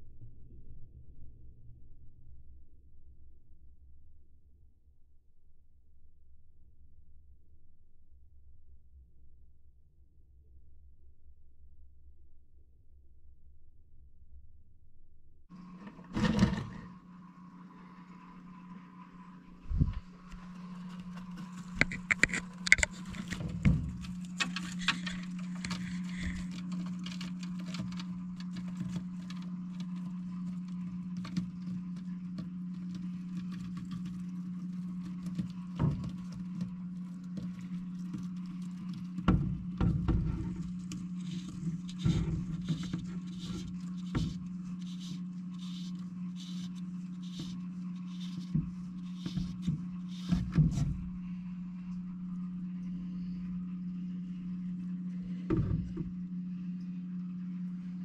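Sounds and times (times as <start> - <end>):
steady low hum: 10.8 - 58.0.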